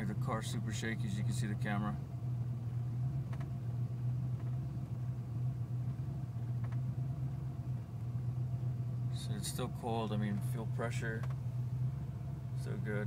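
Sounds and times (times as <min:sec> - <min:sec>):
car engine idling: 0:00.0 - 0:13.0
faint engine tick: 0:00.0 - 0:13.0.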